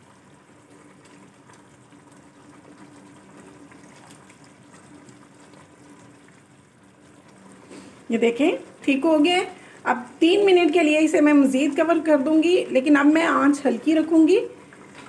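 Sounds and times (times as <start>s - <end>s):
faint steady hum: 0.0s - 15.0s
sauce bubbling in a pan: 0.0s - 15.0s.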